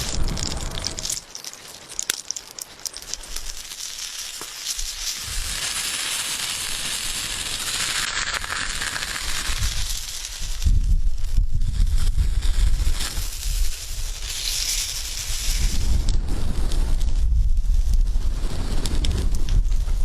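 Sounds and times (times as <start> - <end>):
food sizzling on hot stone: 0.0 - 16.1.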